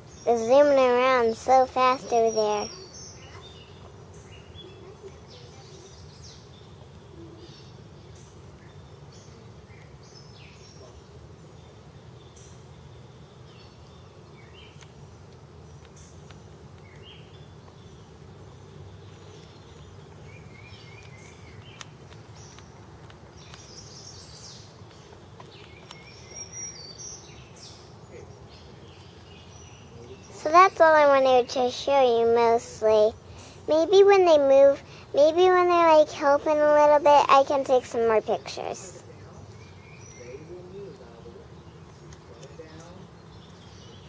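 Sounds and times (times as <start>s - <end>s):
bees buzzing: 0.0s - 44.0s
birds chirping: 0.0s - 44.0s.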